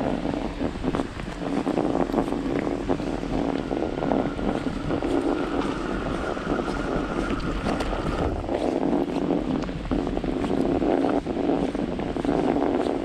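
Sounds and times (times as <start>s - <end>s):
faint steady whine: 0.0s - 13.0s
wind buffeting microphone: 0.0s - 13.0s.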